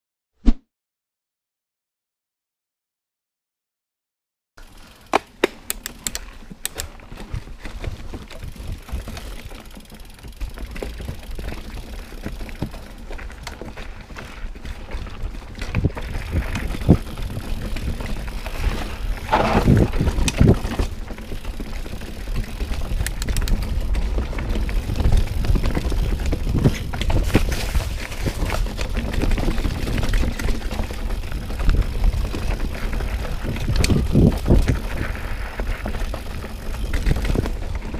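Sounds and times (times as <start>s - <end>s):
bike chain and frame rattling: 4.6s - 37.9s
bike tyres rolling over dirt: 4.6s - 37.9s.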